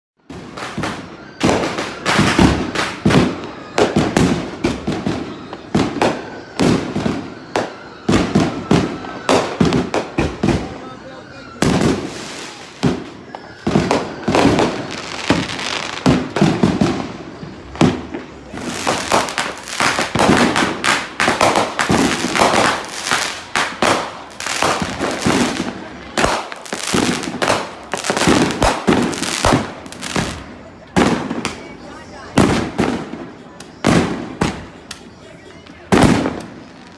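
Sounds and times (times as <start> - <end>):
fireworks and firecrackers banging: 0.2 - 36.9.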